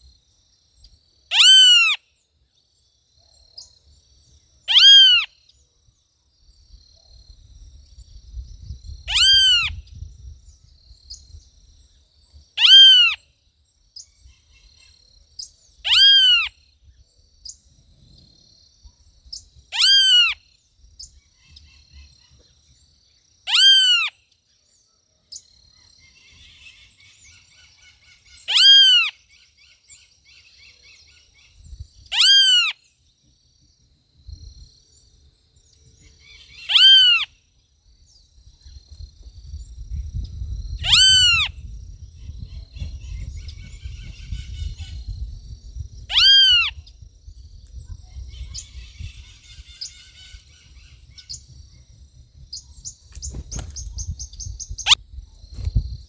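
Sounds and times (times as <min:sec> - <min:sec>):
birds twittering: 0:08.0 - 0:33.2, 0:34.9 - 0:56.0.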